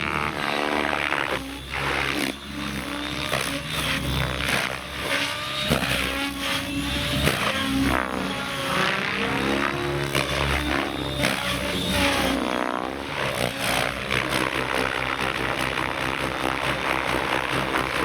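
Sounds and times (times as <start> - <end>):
electric motor whine: 0.0 - 18.0
helicopter rotor blades chopping: 0.0 - 18.0.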